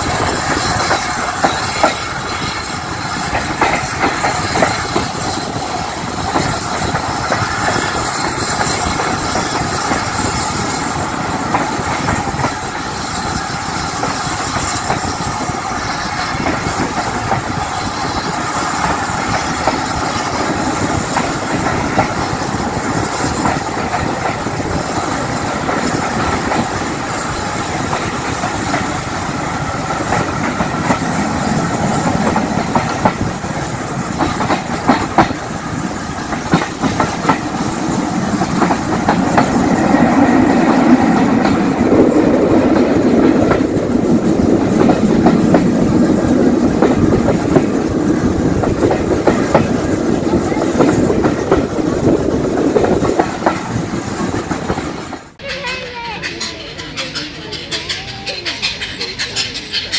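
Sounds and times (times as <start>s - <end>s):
train coaches running on rails: 0.0s - 59.9s
wheels clicking over rail joints: 0.0s - 59.9s.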